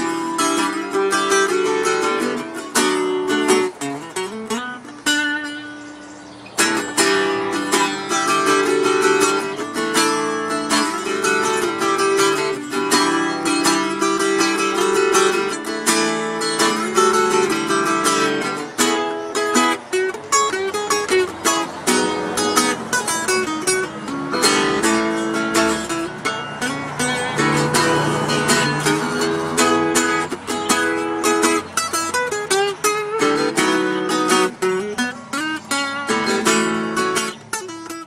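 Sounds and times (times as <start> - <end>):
acoustic guitar playing: 0.0 - 38.0.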